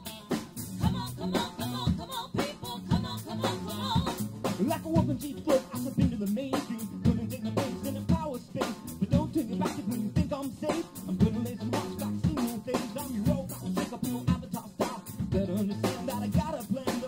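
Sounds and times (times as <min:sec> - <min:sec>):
song with drum kit: 0:00.0 - 0:17.0.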